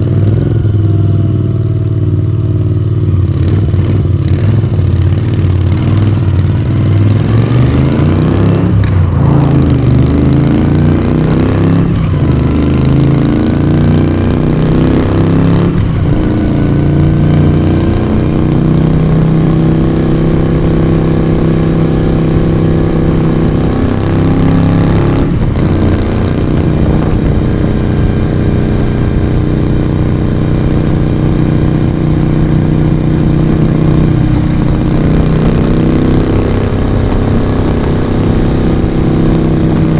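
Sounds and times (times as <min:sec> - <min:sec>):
motorcycle engine pulling hard: 0:00.0 - 0:39.9.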